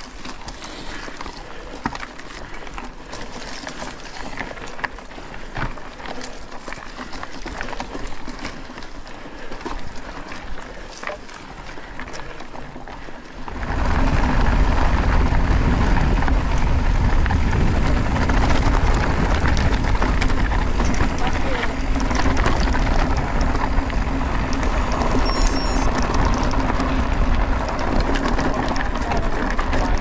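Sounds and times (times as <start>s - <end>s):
bike rattling: 0.0s - 30.0s
tyres crunching on trail: 0.0s - 30.0s
wind and rolling noise: 0.0s - 30.0s.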